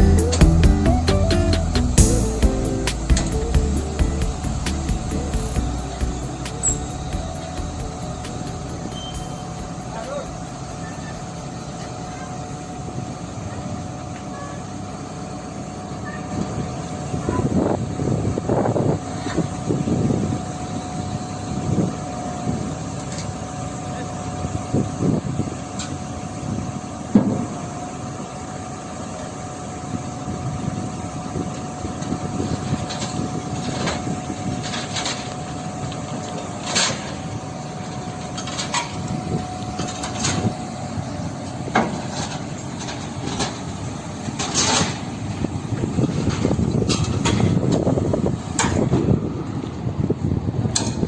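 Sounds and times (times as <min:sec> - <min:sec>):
faint steady whine: 0:00.0 - 0:50.7
diesel engine running: 0:00.0 - 0:51.0.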